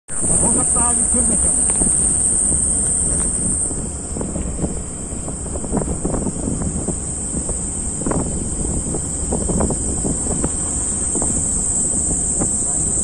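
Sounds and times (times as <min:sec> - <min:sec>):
engine and tyre rumble: 0:00.1 - 0:13.0
high-pitched insect drone: 0:00.1 - 0:13.0
wind buffeting microphone: 0:00.1 - 0:13.0
vehicle knocks and rattles: 0:00.4 - 0:13.0.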